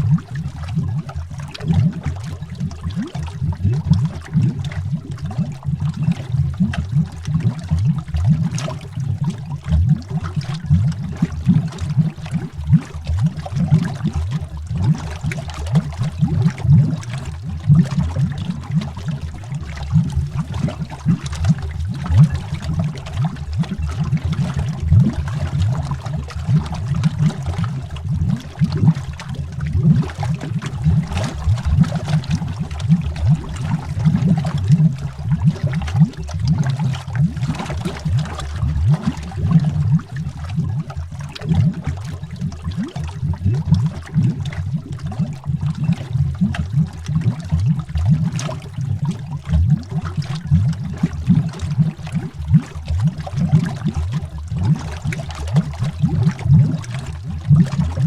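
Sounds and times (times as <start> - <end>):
underwater bubbling: 0.0 - 58.0.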